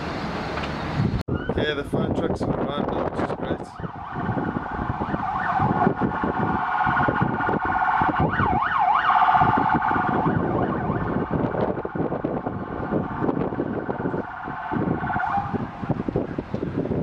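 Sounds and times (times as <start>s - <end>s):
fire engine siren wailing: 3.2s - 17.0s.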